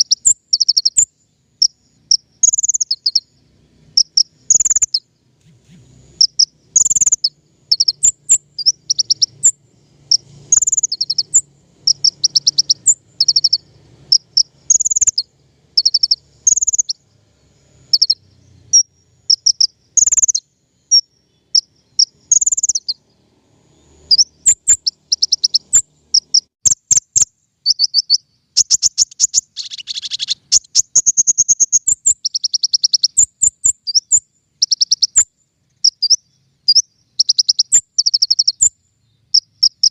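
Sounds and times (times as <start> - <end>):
recorded songbird chirps and trills: 0.0 - 39.9.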